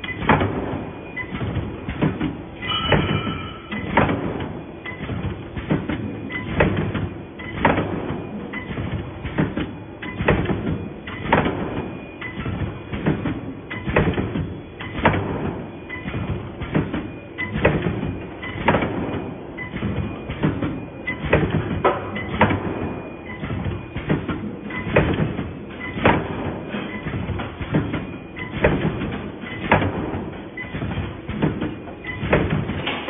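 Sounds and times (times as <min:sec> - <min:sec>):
steady machine noise: 0:00.0 - 0:33.0.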